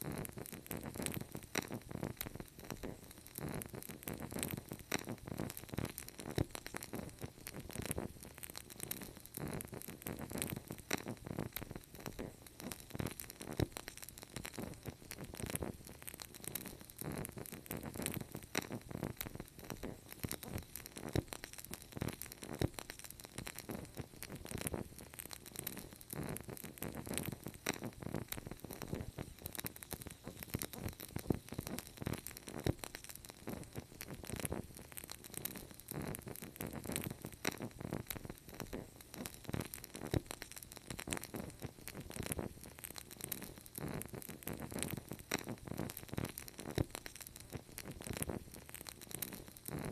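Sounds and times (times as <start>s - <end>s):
wood fire crackling: 0.0s - 49.9s
low rush of burning: 0.1s - 49.9s.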